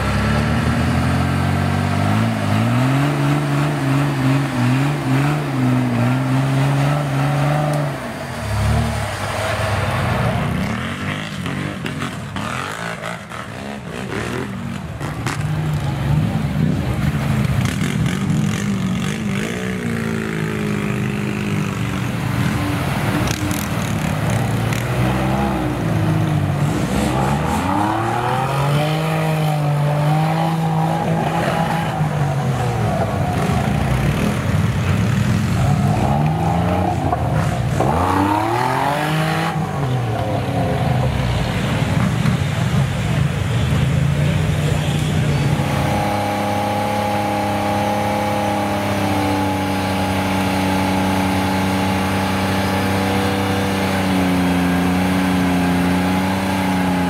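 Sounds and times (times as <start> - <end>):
off-road engine revving: 0.0 - 57.0.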